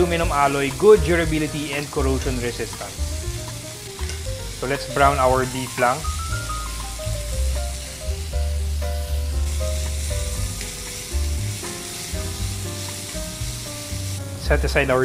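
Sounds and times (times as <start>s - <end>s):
background music: 0.0s - 15.0s
meat sizzling in oil: 0.0s - 15.0s.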